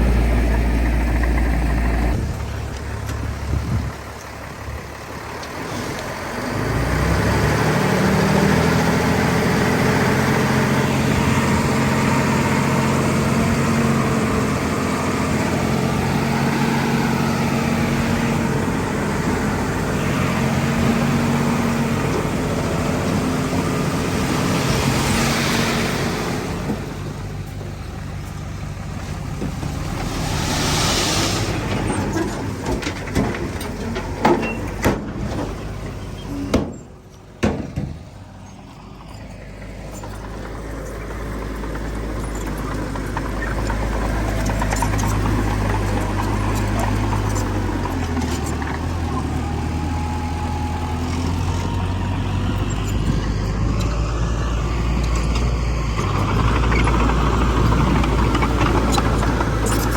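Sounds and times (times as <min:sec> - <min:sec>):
heavy diesel engines working: 0:00.0 - 0:59.9.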